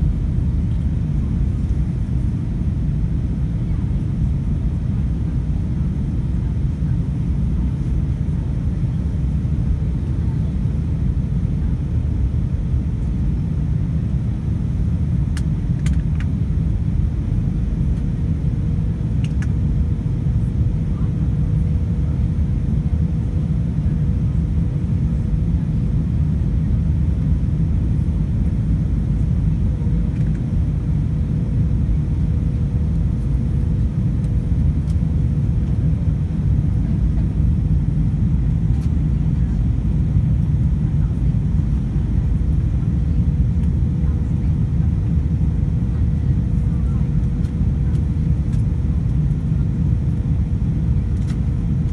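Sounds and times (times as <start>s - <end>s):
aircraft cabin rumble: 0.0s - 51.9s
faint steady hum: 0.0s - 51.9s.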